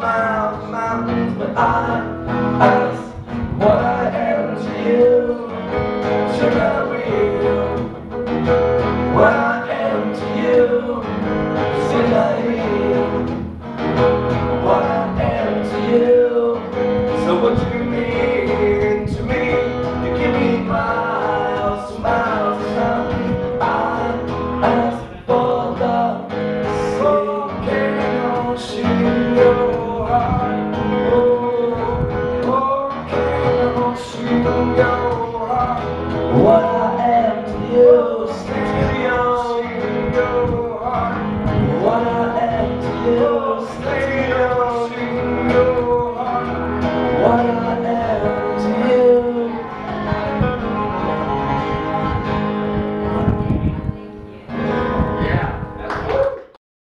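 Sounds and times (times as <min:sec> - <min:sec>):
man singing: 0:00.0 - 0:53.8
acoustic guitars strummed: 0:00.0 - 0:56.5.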